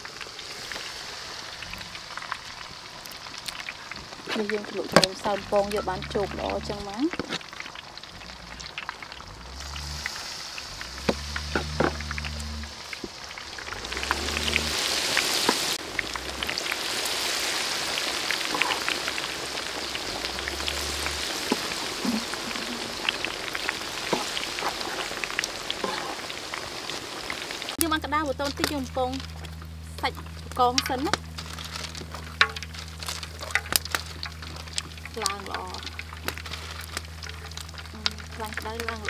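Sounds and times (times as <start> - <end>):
deep-frying sizzle with pops: 0.0 - 39.0.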